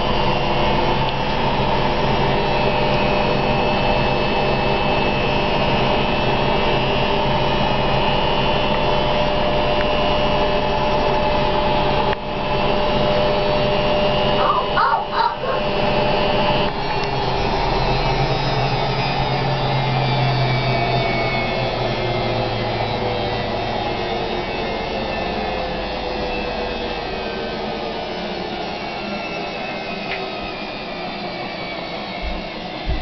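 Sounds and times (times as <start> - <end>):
washing machine spinning down: 0.0 - 33.0.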